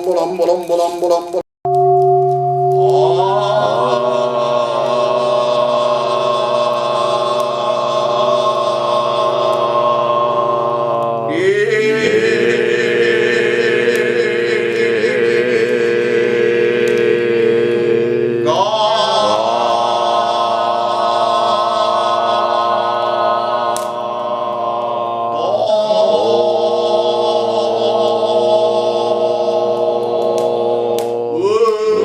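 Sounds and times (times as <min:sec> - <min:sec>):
voices chanting long notes: 0:01.7 - 0:32.0.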